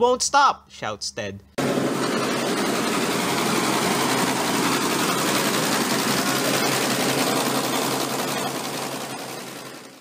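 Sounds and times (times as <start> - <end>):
tractor engine running: 1.6 - 10.0.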